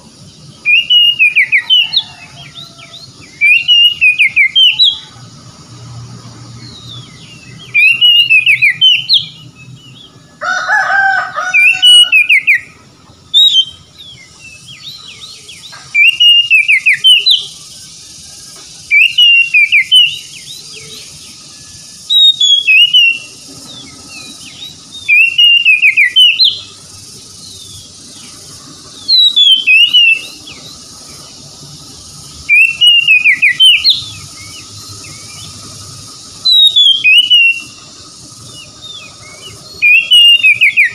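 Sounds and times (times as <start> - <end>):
magpie-robin singing whistled phrases: 0.3 - 5.1, 6.6 - 10.2, 11.5 - 40.9.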